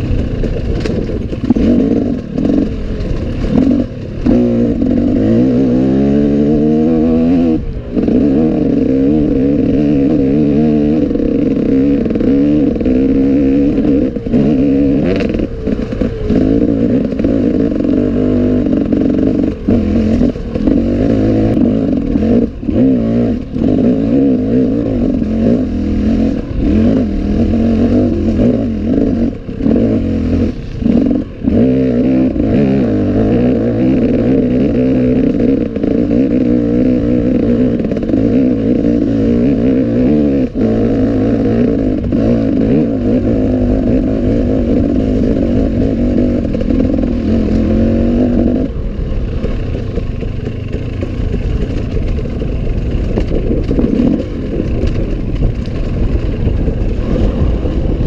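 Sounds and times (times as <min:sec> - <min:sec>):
clatter: 0:00.0 - 0:58.0
motorcycle engine revving: 0:00.0 - 0:58.0.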